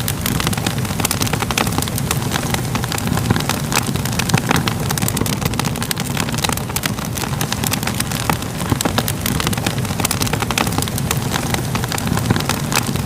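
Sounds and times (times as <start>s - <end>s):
fire crackling: 0.0s - 13.0s
low rumble of burning: 0.0s - 13.0s.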